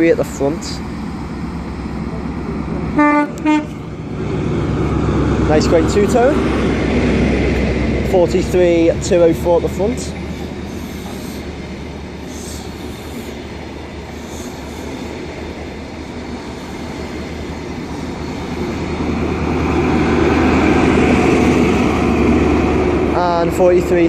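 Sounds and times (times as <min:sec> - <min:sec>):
diesel train engine hum: 0:00.0 - 0:24.0
train wheel and rail noise: 0:00.0 - 0:24.0.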